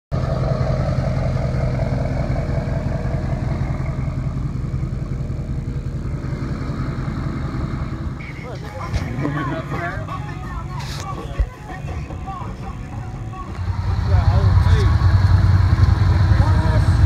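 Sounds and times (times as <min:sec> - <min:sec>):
vehicle engine idling: 0:00.1 - 0:17.0.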